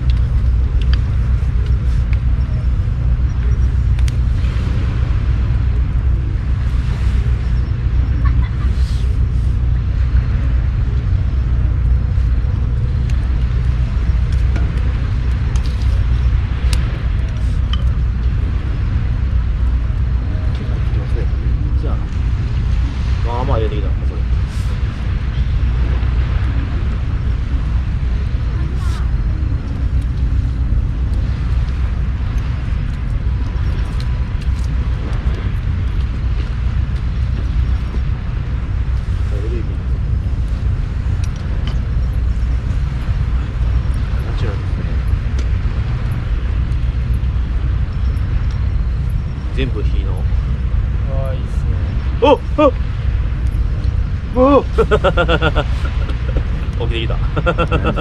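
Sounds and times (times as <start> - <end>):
campfire popping: 0.0 - 58.0
wind buffeting microphone: 0.0 - 58.0.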